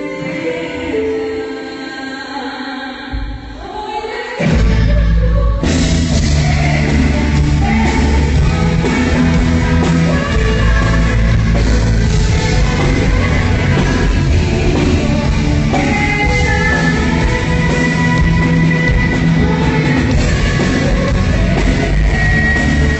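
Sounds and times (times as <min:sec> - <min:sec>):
women singing into microphones: 0:00.0 - 0:22.9
live rock band playing: 0:04.4 - 0:22.9.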